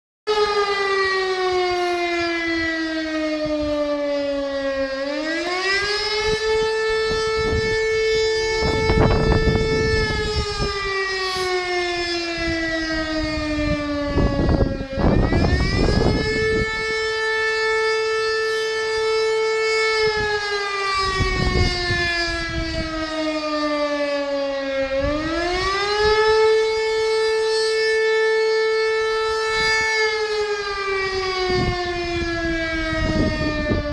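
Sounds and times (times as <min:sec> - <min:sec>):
railway siren wailing: 0:00.3 - 0:33.9.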